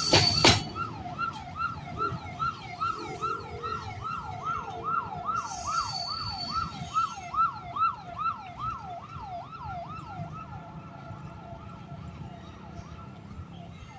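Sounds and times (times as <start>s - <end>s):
siren yelping: 0.0s - 12.8s.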